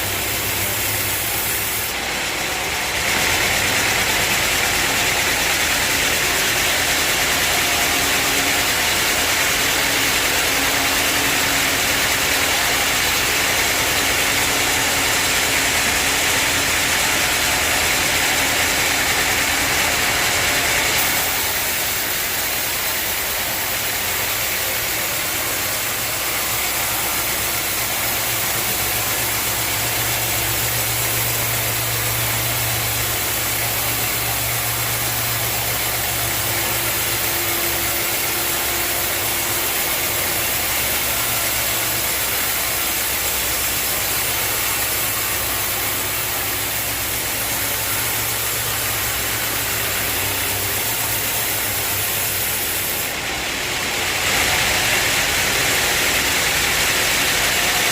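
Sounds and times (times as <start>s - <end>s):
sawmill machinery running: 0.0s - 57.9s.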